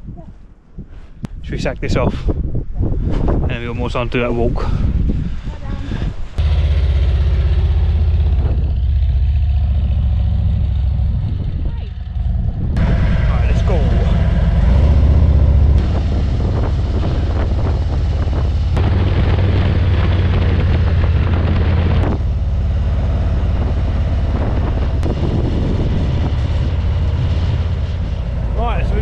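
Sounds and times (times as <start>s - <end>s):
wind on microphone: 0.0s - 29.0s
motorcycle engine rumbling: 4.8s - 29.0s.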